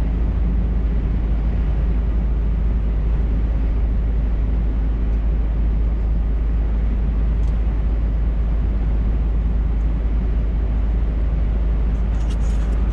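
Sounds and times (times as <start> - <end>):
road noise: 0.0 - 12.9.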